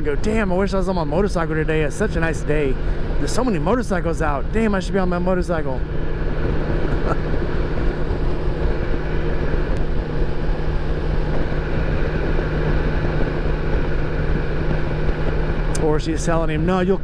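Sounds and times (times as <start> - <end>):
motorcycle engine hum: 0.0 - 17.0
wind and road noise: 0.0 - 17.0.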